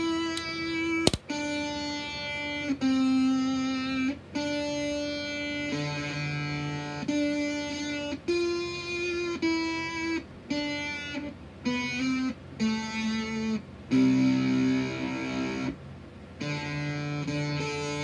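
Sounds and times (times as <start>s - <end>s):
distorted electric guitar notes: 0.0s - 15.8s, 16.4s - 18.0s.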